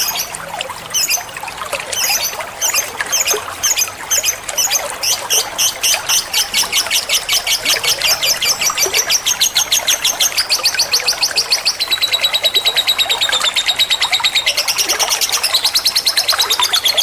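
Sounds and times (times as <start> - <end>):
lovebird chirping and trilling: 0.0 - 0.3, 0.9 - 17.0.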